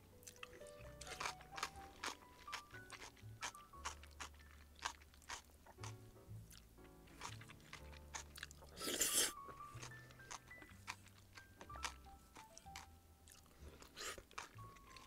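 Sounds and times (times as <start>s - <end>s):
quiet background music: 0.0s - 15.0s
chewing crunchy food: 0.2s - 15.0s.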